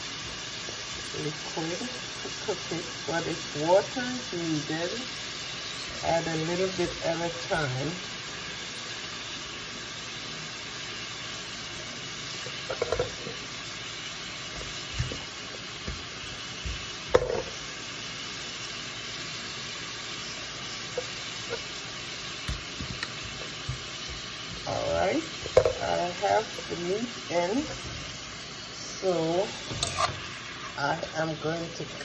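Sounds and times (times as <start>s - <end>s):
beef sizzling in frying pan: 0.0s - 32.0s.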